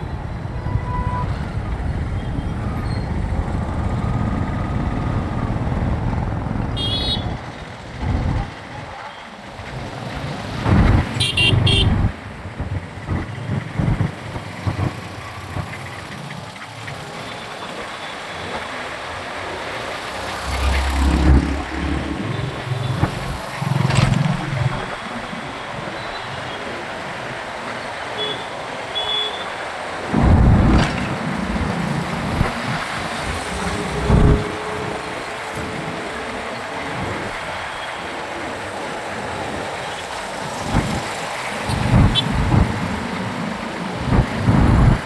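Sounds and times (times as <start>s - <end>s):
passing vehicles: 0.0s - 45.0s
road and wind rumble: 0.0s - 45.0s.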